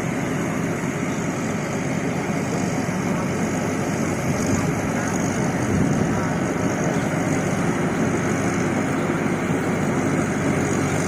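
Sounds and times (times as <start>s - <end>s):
combine harvester engine humming: 0.0s - 11.0s.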